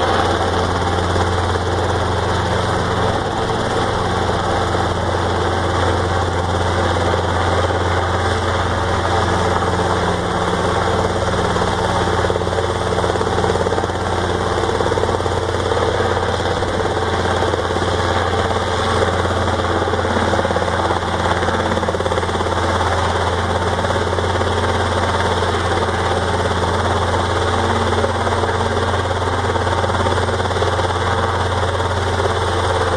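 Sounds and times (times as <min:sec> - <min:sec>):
helicopter drone: 0:00.0 - 0:32.9.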